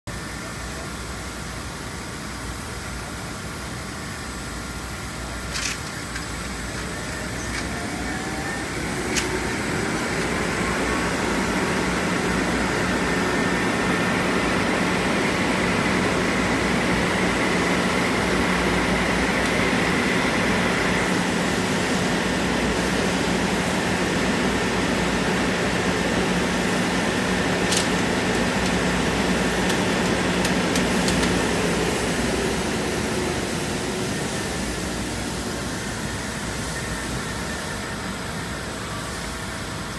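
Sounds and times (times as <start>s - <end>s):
ventilation motor air rush: 0.1s - 39.9s.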